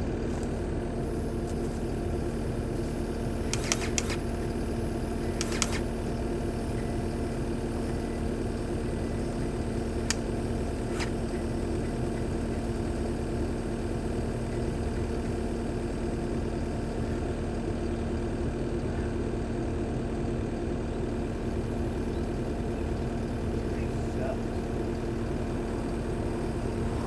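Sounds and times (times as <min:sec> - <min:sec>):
skid steer engine idling: 0:00.0 - 0:27.0.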